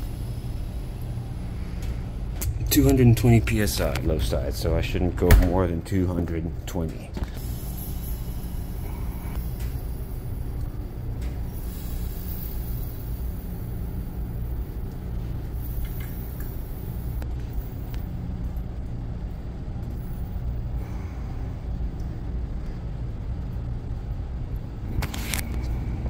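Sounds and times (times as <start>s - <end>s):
machinery humming and rumbling: 0.0s - 26.0s.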